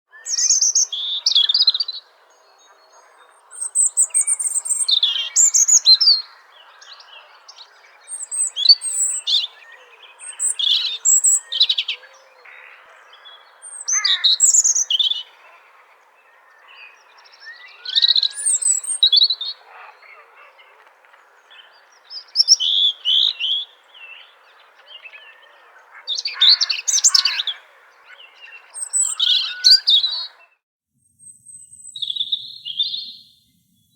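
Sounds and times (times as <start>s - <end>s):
robin singing: 0.1s - 30.6s, 31.2s - 33.9s.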